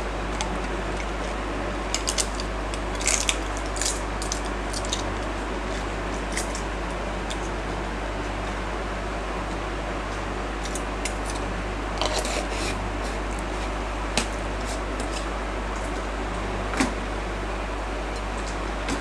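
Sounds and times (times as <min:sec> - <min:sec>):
cooktop hum and fan noise: 0:00.0 - 0:19.0.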